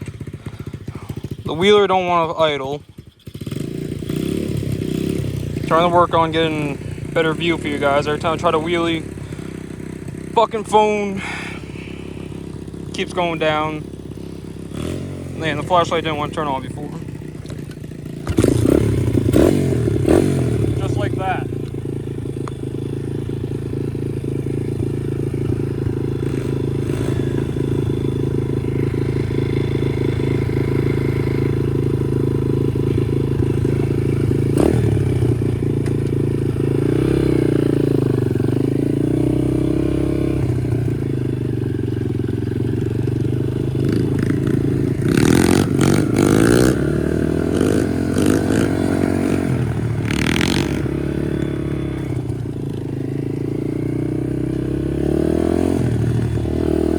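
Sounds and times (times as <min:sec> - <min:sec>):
small engine revving: 0:00.0 - 0:56.9.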